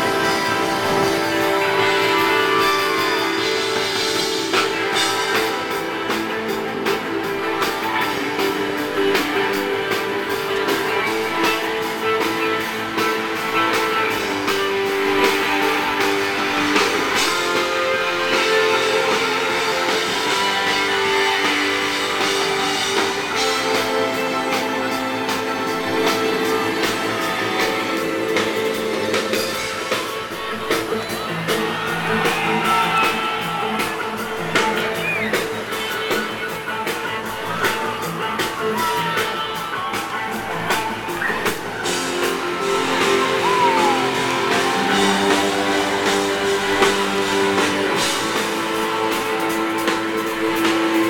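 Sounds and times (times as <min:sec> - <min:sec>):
drum kit beat: 0:00.0 - 0:51.0
electric guitar: 0:00.0 - 0:51.0.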